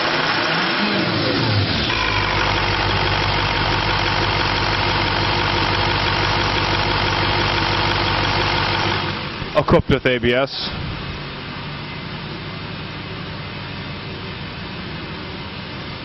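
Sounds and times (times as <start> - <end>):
diesel truck engine idling: 1.4 - 16.0.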